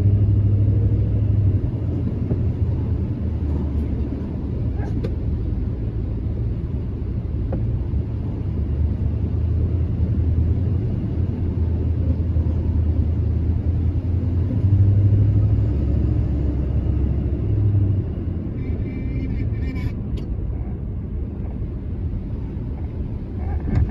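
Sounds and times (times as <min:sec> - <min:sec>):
car driving on wet road: 0:00.0 - 0:23.9.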